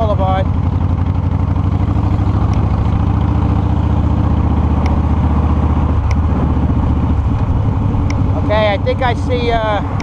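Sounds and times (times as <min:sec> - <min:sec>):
motorcycle engine running: 0:00.0 - 0:10.0
wind and road rush: 0:00.0 - 0:10.0.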